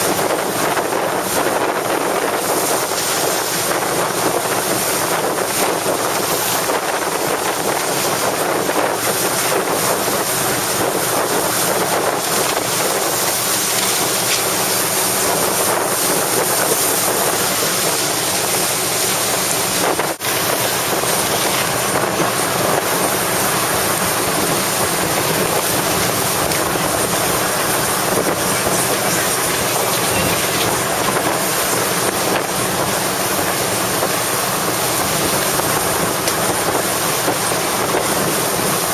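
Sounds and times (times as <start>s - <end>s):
water noise: 0.0s - 38.9s
wind buffeting microphone: 0.0s - 38.9s.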